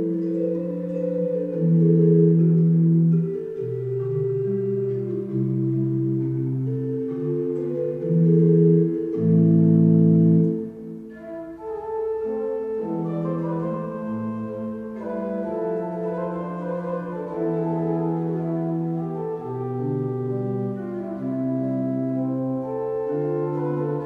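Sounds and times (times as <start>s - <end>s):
pipe organ playing chords: 0.0s - 24.0s.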